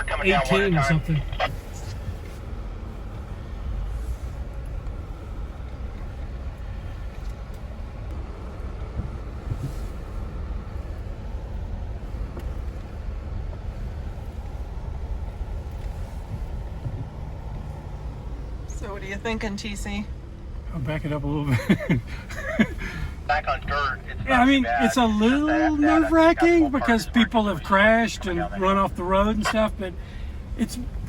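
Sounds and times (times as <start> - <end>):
engine rumbling: 0.0 - 31.0.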